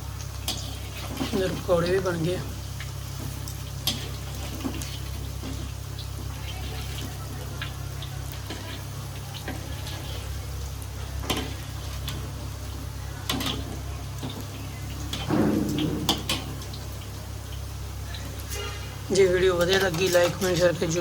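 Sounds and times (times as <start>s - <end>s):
food frying in hot oil: 0.0s - 21.0s.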